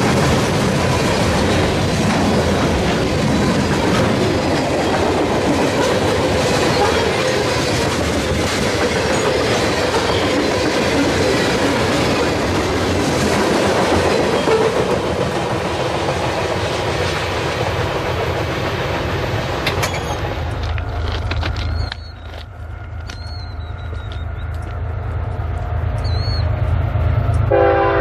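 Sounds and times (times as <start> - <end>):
wheels clacking over rail joints: 0.0 - 25.4
freight train rumbling past: 0.0 - 28.0.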